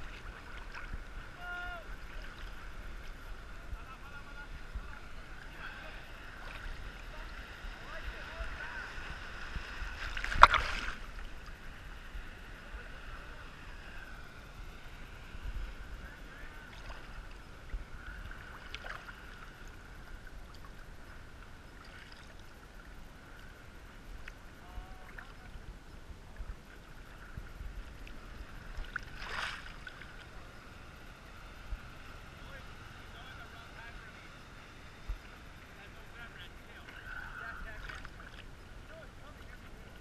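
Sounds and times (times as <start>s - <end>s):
seawater sloshing: 0.0s - 40.0s
water splashes: 0.0s - 40.0s.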